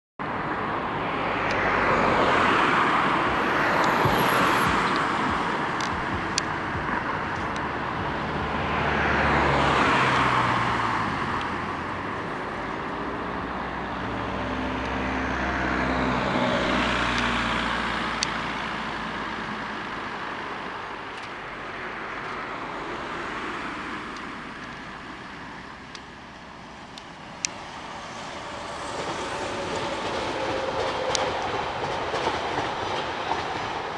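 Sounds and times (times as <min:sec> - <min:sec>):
heavy engine low hum: 0:00.2 - 0:32.7
vehicles passing: 0:00.2 - 0:33.9.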